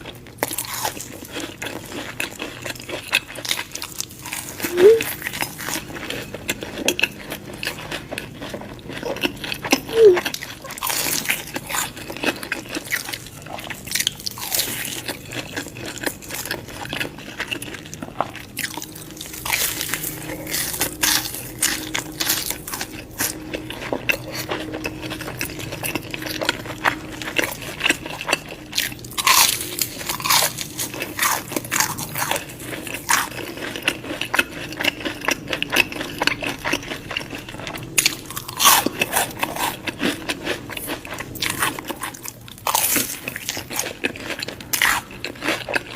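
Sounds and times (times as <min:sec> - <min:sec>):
crunchy chewing: 0:00.0 - 0:45.9.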